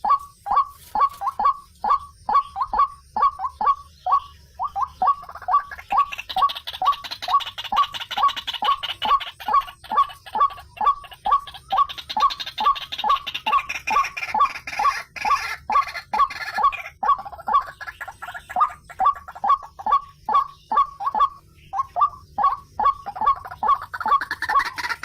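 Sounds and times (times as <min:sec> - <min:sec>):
waterhen calling: 0:00.0 - 0:25.0.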